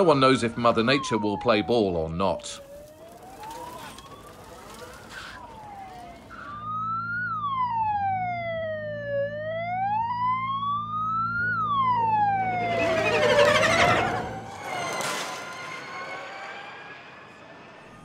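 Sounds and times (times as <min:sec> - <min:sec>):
emergency siren wailing: 0:00.0 - 0:18.0.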